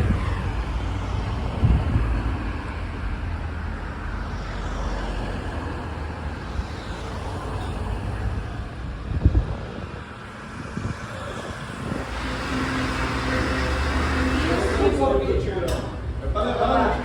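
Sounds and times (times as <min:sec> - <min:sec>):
vehicle road noise rumble: 0:00.0 - 0:16.9.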